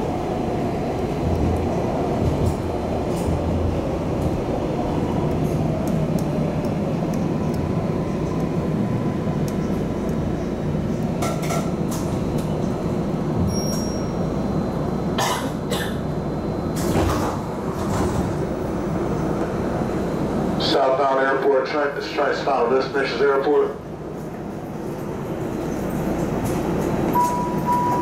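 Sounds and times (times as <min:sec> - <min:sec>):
train car rumbling: 0:00.0 - 0:28.0.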